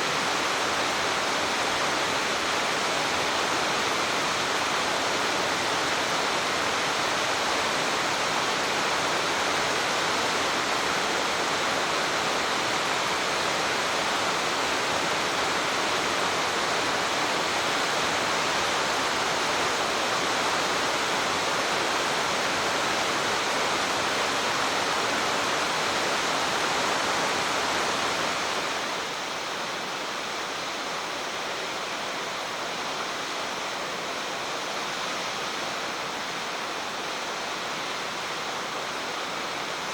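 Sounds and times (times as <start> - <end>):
stream rapids rushing: 0.0 - 39.9
waterfall rushing: 0.0 - 39.9.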